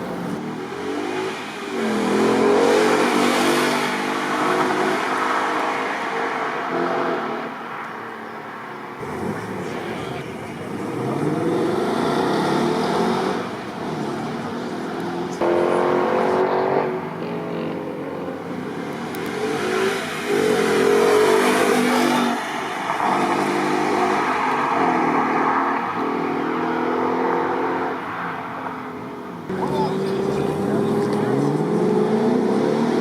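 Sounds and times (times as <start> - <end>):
car engine accelerating hard: 0.0 - 7.6, 9.0 - 28.1, 29.4 - 33.0.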